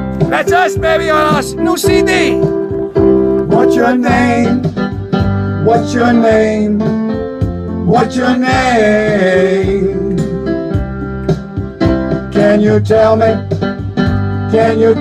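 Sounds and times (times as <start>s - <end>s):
pop ballad with keyboard: 1.2s - 15.0s.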